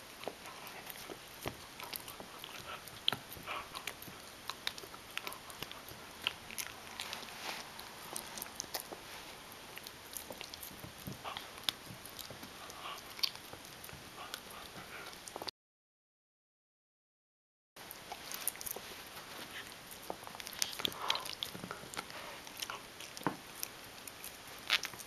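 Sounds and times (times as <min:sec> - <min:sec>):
dog gnawing a chew bone: 0:00.0 - 0:15.5, 0:17.8 - 0:25.0.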